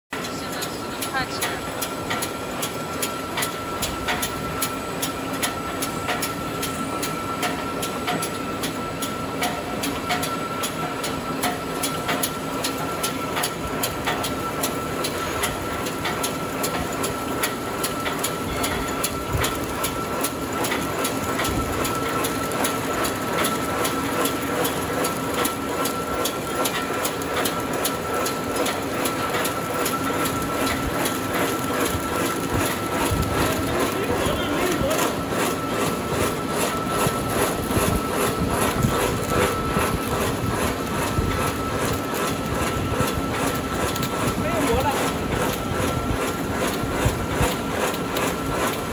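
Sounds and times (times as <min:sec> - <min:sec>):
machine hum: 0:00.1 - 0:48.9
fast repeating machine clicks: 0:00.2 - 0:48.9.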